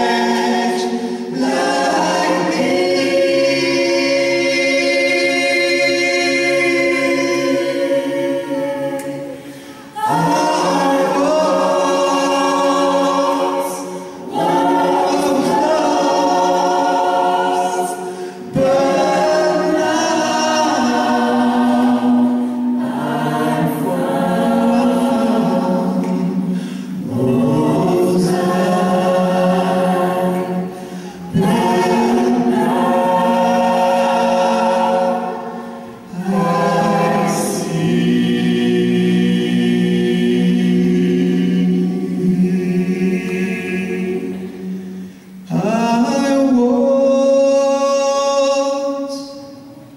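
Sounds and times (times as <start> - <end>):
gospel choir singing: 0.0 - 49.9.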